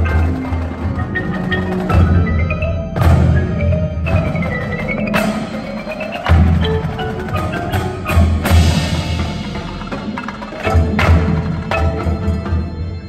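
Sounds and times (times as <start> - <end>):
marimbas and vibraphones playing: 0.0 - 13.0
sharp accented percussion hits: 0.0 - 13.0.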